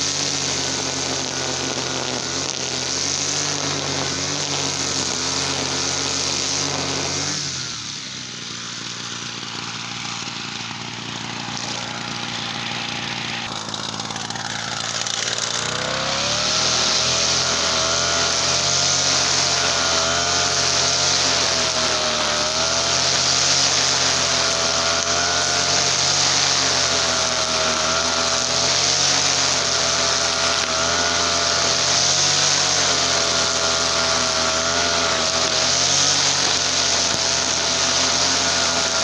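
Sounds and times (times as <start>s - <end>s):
brush cutter engine running: 0.0s - 39.0s.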